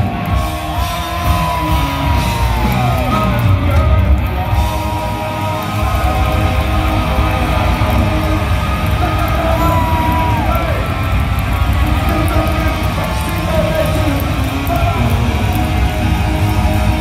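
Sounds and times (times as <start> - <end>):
punk rock band playing live: 0.0 - 17.0
singer holding a long note: 0.7 - 17.0.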